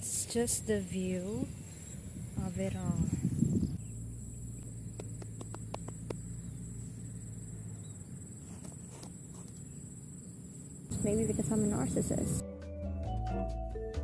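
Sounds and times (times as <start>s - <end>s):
low outdoor rumble: 0.0s - 12.4s
high-pitched insect chorus: 0.3s - 12.2s.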